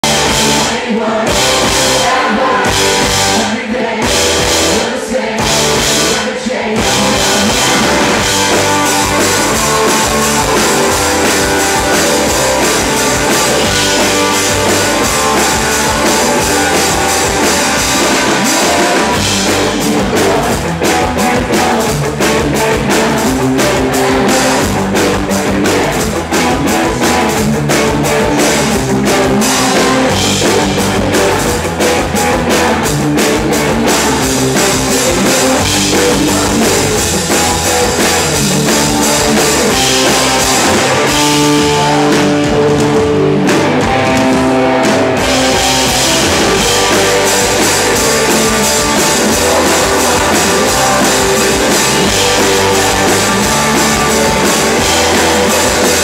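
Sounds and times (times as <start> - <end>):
man singing: 0.0 - 43.1, 43.8 - 56.0
drum beat: 0.0 - 56.0
live rock band playing: 0.0 - 56.0.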